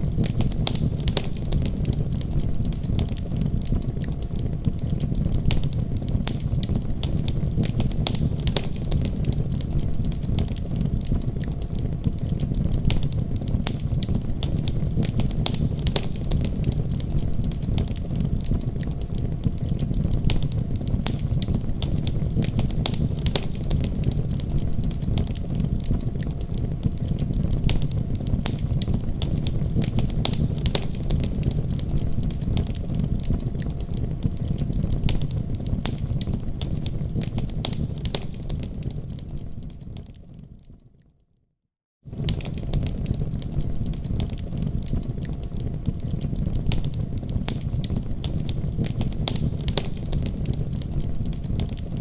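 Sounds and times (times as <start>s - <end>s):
low rush of flames: 0.0s - 40.4s, 42.1s - 52.0s
fire crackling and popping: 0.0s - 41.1s, 42.0s - 52.0s.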